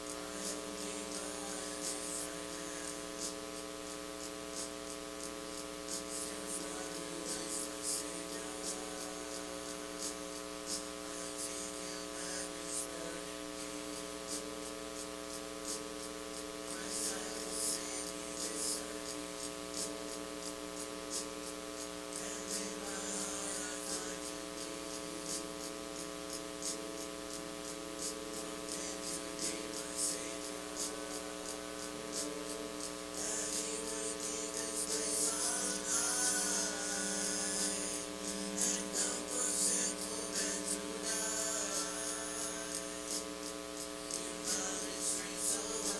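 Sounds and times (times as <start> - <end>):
electrical mains hum: 0.0 - 45.9
static crackle: 0.0 - 45.9.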